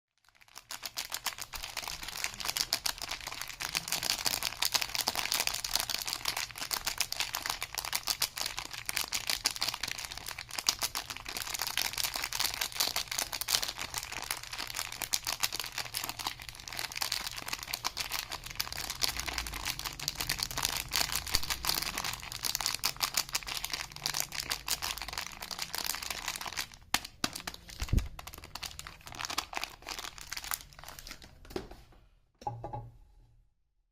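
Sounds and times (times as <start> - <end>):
wrappers crinkling and tearing: 0.2 - 31.5.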